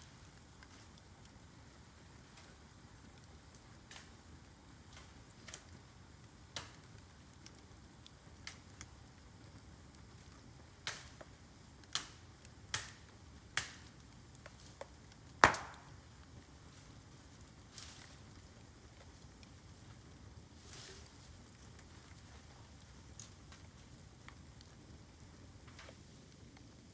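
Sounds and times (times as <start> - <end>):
bamboo fire crackling and popping: 0.0 - 26.9.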